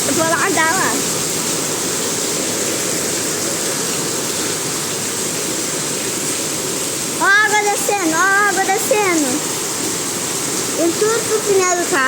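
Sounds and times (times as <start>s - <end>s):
heavy rain pouring: 0.0s - 12.0s
runoff water rushing: 0.0s - 12.0s.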